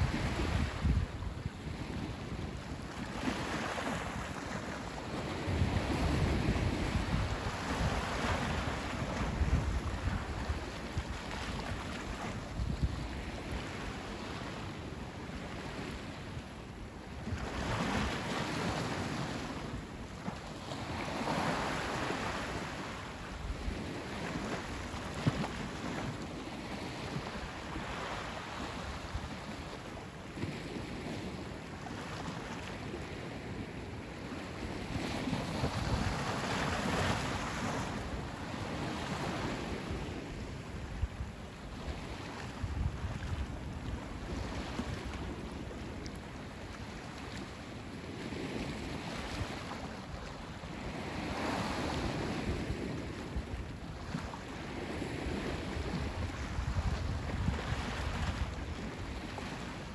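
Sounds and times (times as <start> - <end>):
small waves washing onto sand: 0.0 - 59.9
wind rumble on microphone: 0.0 - 59.9.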